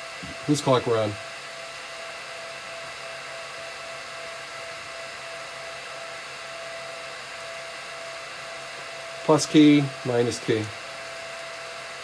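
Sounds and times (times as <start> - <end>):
cooling fan whining: 0.0 - 12.0.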